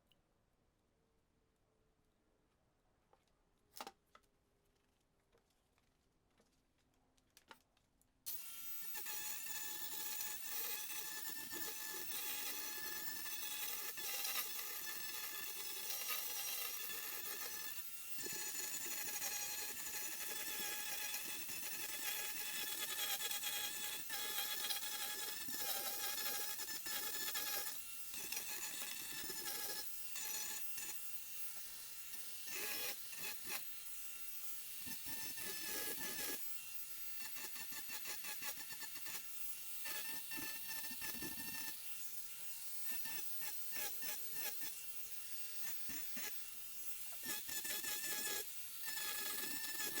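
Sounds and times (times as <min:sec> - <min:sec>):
angle grinder grinding wood: 0:08.3 - 0:21.2, 0:22.0 - 0:50.0.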